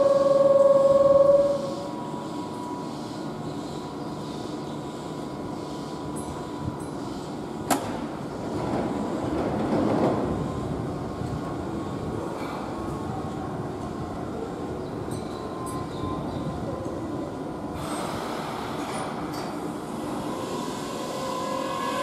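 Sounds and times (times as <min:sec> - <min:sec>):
rail noise rumble: 0:00.0 - 0:22.0.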